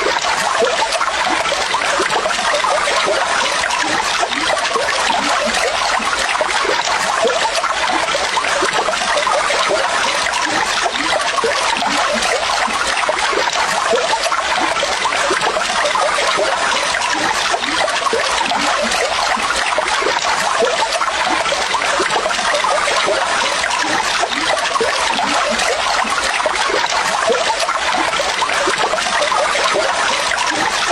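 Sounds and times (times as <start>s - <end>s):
water trickling and splashing: 0.0s - 30.9s.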